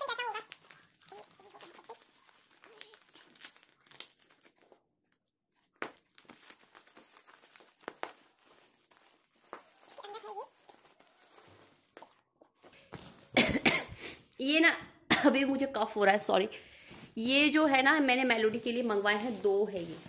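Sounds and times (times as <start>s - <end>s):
plastic wrapping crinkling and tearing: 0.0s - 14.4s, 16.4s - 20.0s.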